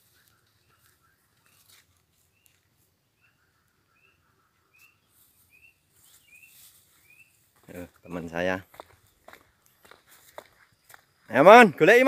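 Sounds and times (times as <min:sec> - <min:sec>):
faint bird chirping: 0:00.0 - 0:11.4.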